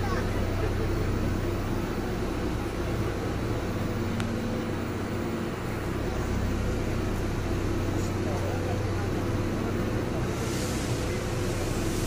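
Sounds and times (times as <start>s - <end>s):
train carriage hum: 0.0s - 12.0s.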